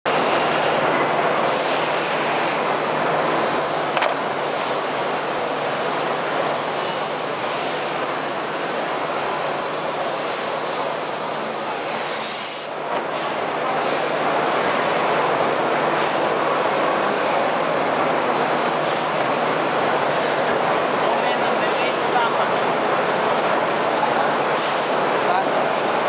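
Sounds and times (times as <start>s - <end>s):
busy exhibition hall noise: 0.1s - 26.0s
injection moulding machine running: 0.1s - 26.0s.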